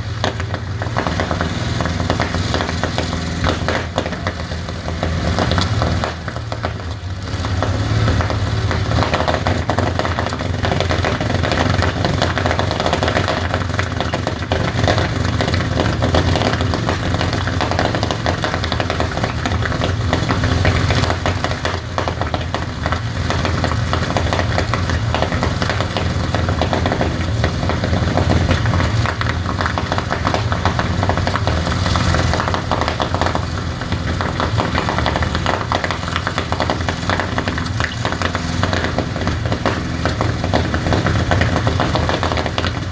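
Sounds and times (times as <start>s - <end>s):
aero engine running: 0.0s - 42.9s.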